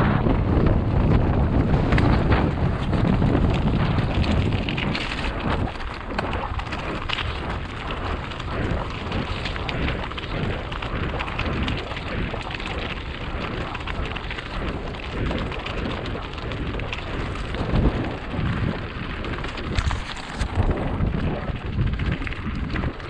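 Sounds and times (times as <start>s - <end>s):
bike rattling: 0.0s - 23.0s
wind rumbling on microphone: 0.0s - 23.0s
bike tyres crunching on rocks: 1.6s - 23.0s.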